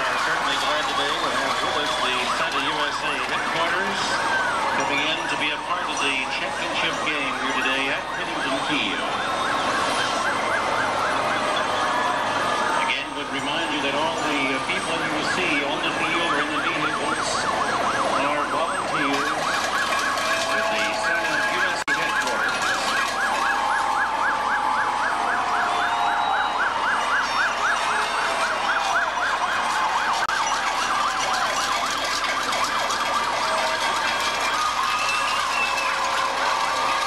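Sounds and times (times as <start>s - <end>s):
siren yelping: 0.0s - 37.0s
wailing siren: 0.0s - 37.0s.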